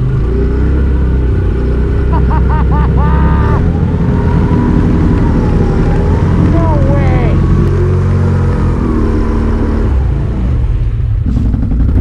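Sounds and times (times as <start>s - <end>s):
atv engine running under throttle: 0.0s - 9.8s, 11.1s - 12.0s.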